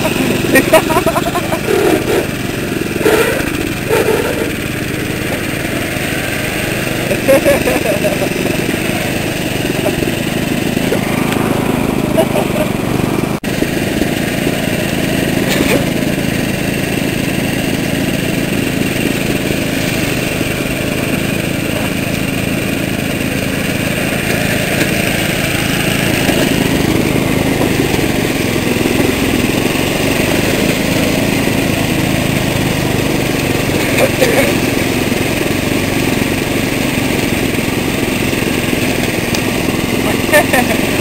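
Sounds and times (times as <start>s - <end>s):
small tractor engine running: 0.0s - 41.0s.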